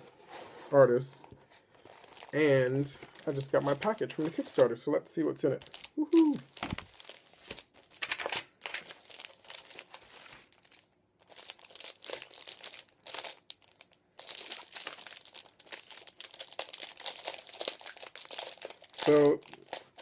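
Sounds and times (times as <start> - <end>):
plastic and paper crinkling: 1.7 - 4.8, 5.5 - 20.0.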